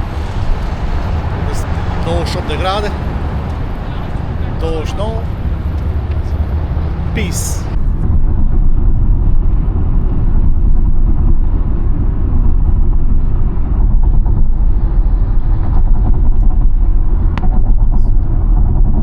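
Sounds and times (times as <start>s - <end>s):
loud low rumble: 0.0s - 19.0s.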